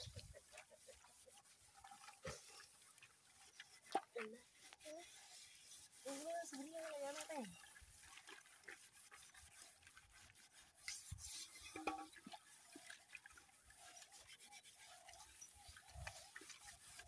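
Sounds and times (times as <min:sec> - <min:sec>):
scouring pad scrubbing metal pot: 0:00.0 - 0:17.0.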